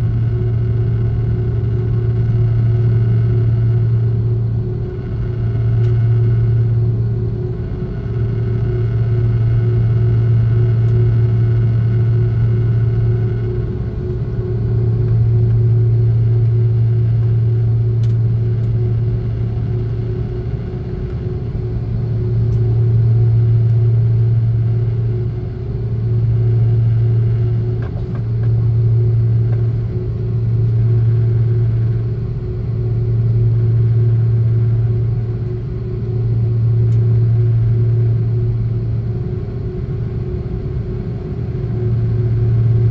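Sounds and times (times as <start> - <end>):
airliner engines droning: 0.0 - 42.9.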